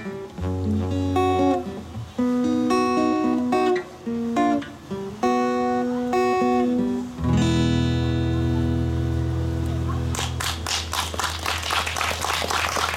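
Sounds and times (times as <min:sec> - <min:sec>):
acoustic guitar playing: 0:00.0 - 0:11.1.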